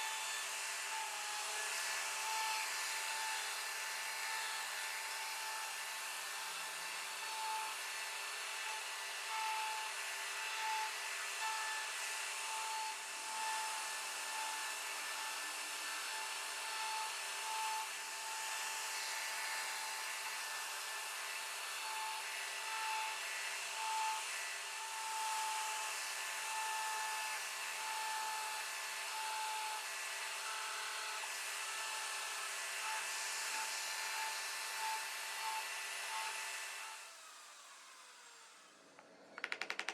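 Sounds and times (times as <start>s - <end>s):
router spindle cutting board: 0.0s - 39.9s.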